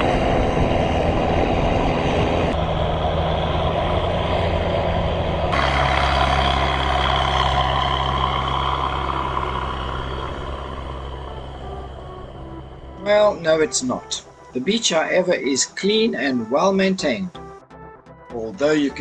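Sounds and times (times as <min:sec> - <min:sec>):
boat engines droning: 0:00.0 - 0:17.6.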